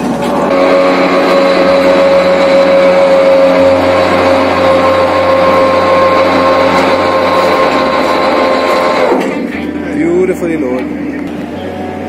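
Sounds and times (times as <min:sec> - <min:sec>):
winch whining: 0:00.0 - 0:10.2
low hum: 0:00.0 - 0:12.0.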